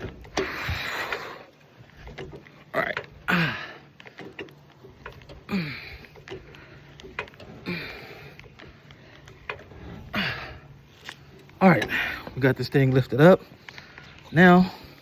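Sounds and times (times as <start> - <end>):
floor jack being pumped: 0.0 - 15.0.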